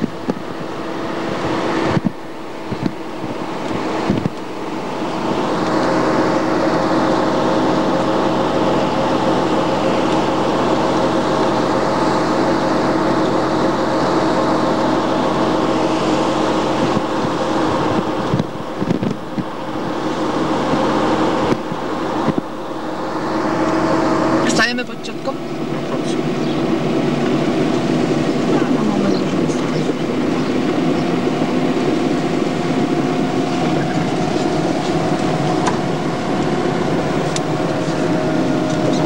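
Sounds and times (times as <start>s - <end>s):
car engine running: 0.0s - 39.0s
road and wind noise: 0.0s - 39.0s.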